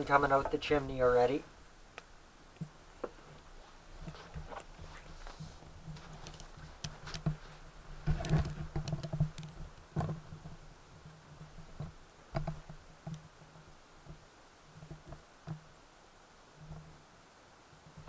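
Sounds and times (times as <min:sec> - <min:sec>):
wood fire crackling: 0:00.0 - 0:15.3
low steady hum: 0:00.0 - 0:18.0.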